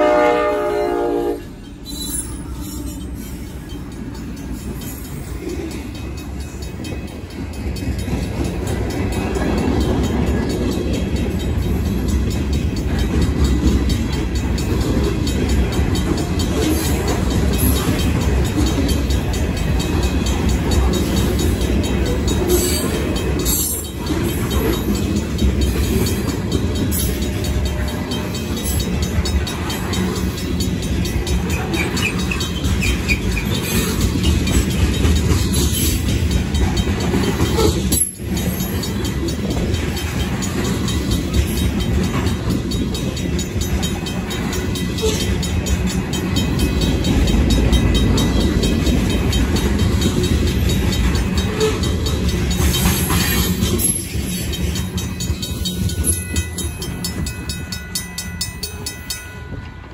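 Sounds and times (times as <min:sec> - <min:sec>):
crossing bell ringing: 0:00.0 - 0:59.9
steel wheels rumbling on rails: 0:00.0 - 0:59.9.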